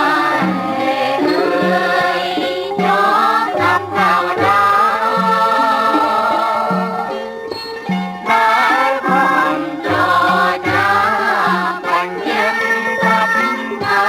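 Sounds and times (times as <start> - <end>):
song with wavering melody: 0.0 - 14.0.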